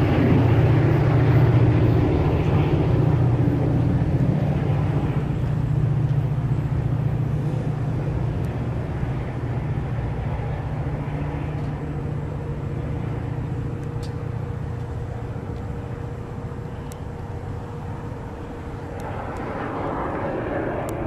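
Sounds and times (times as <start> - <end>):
locomotive engine droning: 0.0 - 21.0.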